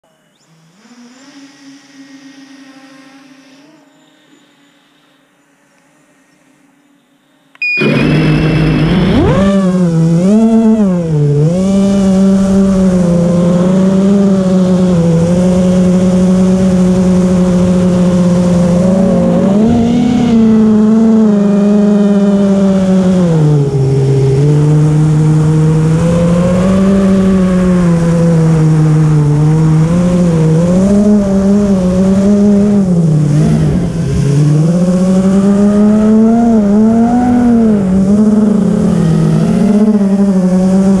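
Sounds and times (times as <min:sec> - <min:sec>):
quadcopter motors buzzing whine: 0:00.0 - 0:41.0.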